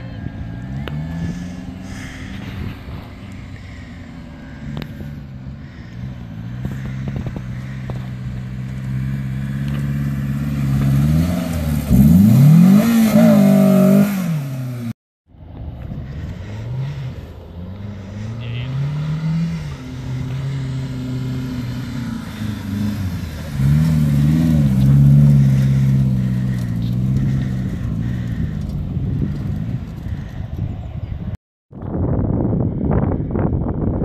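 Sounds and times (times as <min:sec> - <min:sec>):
car engine revving: 0:00.0 - 0:15.0, 0:15.8 - 0:30.5.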